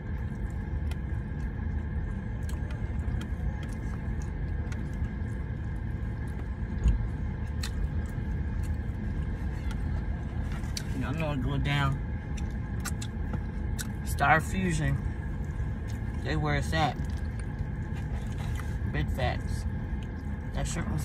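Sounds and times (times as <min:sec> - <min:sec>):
people chewing food: 0:00.0 - 0:11.2, 0:12.0 - 0:14.1, 0:14.9 - 0:20.7.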